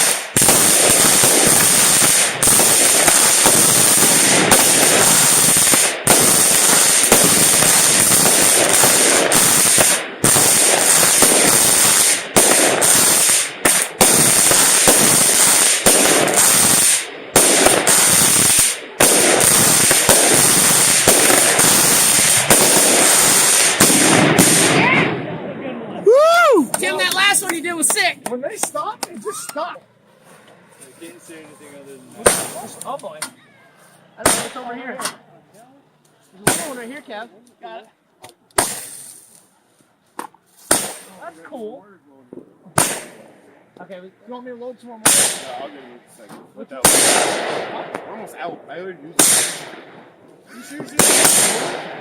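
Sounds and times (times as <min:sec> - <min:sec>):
fireworks banging and crackling: 0:00.0 - 0:25.5, 0:26.2 - 0:30.0, 0:30.9 - 0:33.4, 0:34.2 - 0:35.2, 0:36.3 - 0:37.3, 0:38.2 - 0:39.6, 0:40.2 - 0:44.0, 0:44.9 - 0:52.0.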